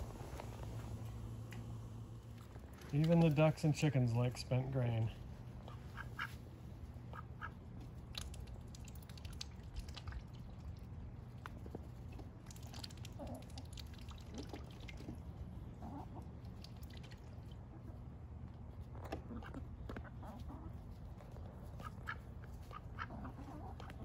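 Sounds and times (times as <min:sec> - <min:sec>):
beaks pecking at grain: 0:00.0 - 0:24.0.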